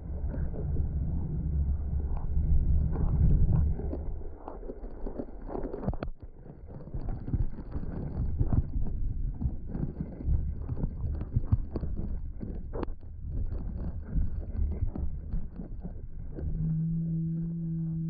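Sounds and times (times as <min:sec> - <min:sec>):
wind buffeting the microphone: 0:00.0 - 0:16.6.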